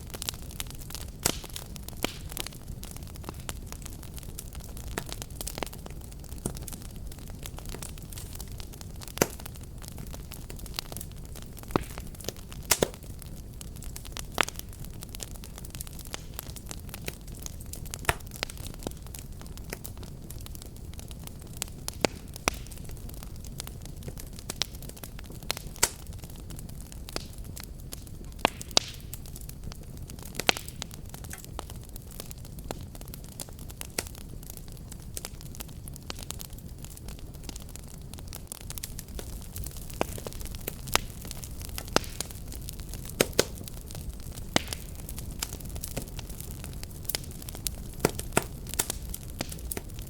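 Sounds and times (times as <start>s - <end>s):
fireplace fire crackling: 0.0s - 50.0s
sharp fire pops: 0.0s - 50.0s.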